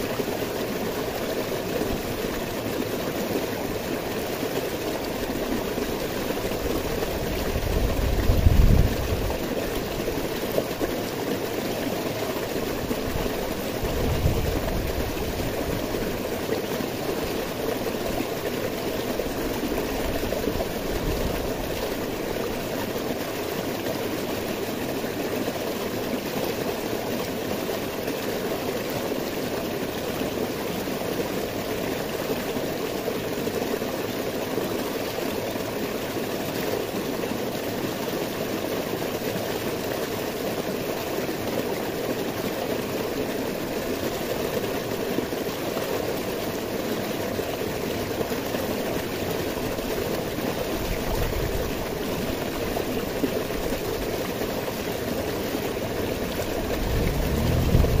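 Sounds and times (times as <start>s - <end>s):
stream water cascading over boulders: 0.0s - 58.0s.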